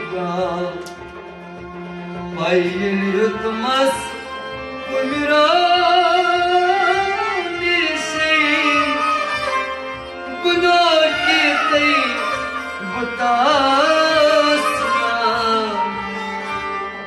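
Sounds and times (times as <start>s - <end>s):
man singing: 0.0s - 1.0s, 2.3s - 4.3s, 4.9s - 9.6s, 10.3s - 16.4s
harmonium: 0.0s - 17.0s
string instruments: 0.0s - 17.0s.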